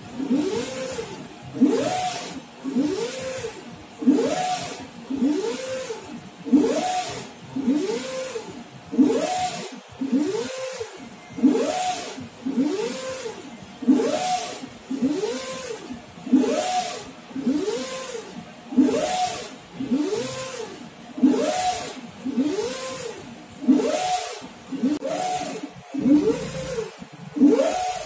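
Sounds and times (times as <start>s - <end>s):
printer carriage motor whining: 0.0s - 28.0s.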